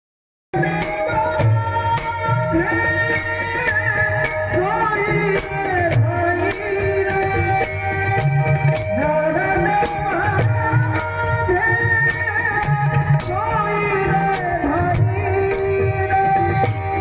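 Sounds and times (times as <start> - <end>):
tabla strokes: 0.6 - 17.0.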